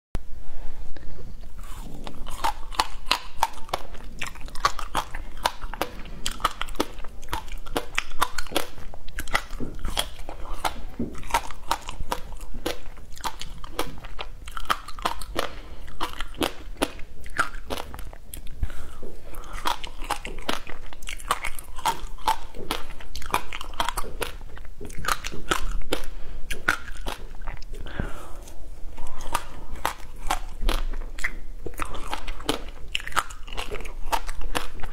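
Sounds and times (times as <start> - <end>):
teeth crunching frozen ice: 1.5 - 34.9.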